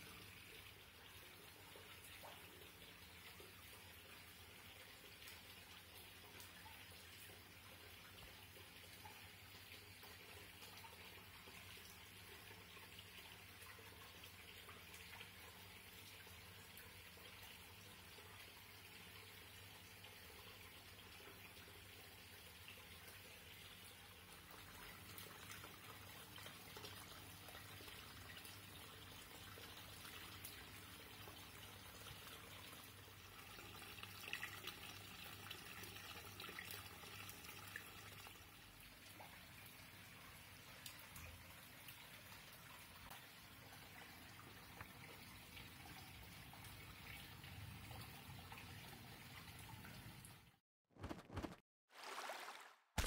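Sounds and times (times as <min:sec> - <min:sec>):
water trickling into a pool: 0:00.0 - 0:50.6, 0:51.9 - 0:53.0.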